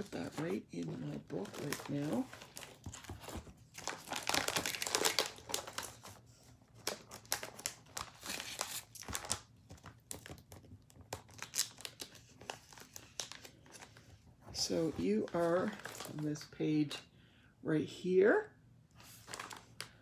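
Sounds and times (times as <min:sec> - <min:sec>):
paper packaging crinkling: 0:00.0 - 0:14.1, 0:14.8 - 0:16.4, 0:19.0 - 0:20.0.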